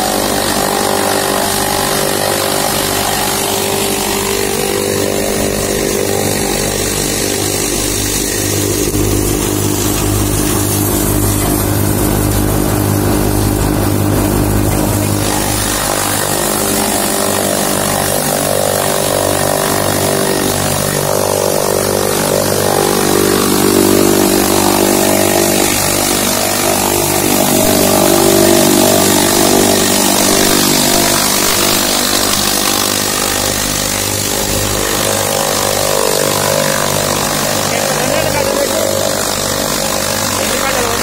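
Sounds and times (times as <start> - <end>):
chaff cutter chopping stalks: 0.0 - 41.0
tractor engine running: 0.0 - 41.0.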